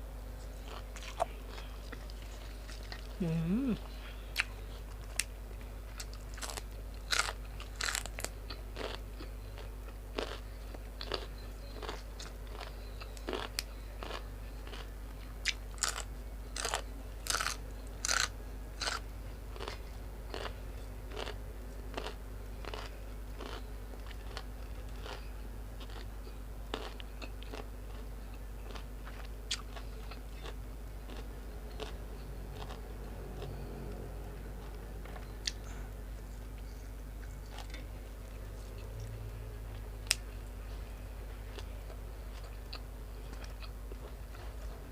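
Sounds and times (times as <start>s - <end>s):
person chewing and crunching food: 0.4s - 33.7s, 34.6s - 44.8s.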